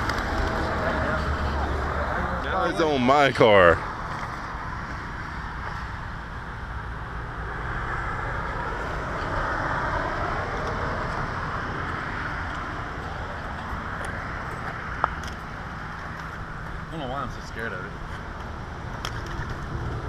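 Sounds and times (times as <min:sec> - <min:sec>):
road traffic noise: 0:00.0 - 0:20.0
vehicle passing by: 0:00.0 - 0:20.0.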